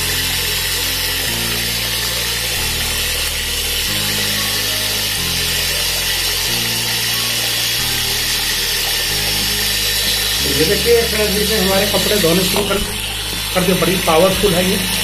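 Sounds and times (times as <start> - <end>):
small washing machine churning water: 0.0 - 15.0.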